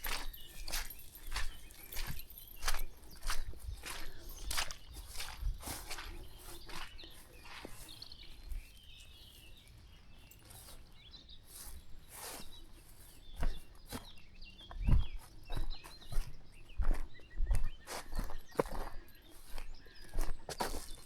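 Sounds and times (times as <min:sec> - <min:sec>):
footsteps on a country path: 0:00.0 - 0:21.0
small birds chirping: 0:00.0 - 0:21.0.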